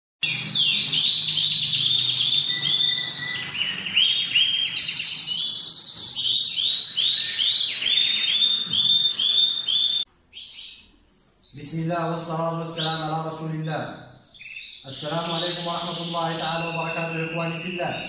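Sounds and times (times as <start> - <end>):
canary singing trills: 0.2 - 18.0.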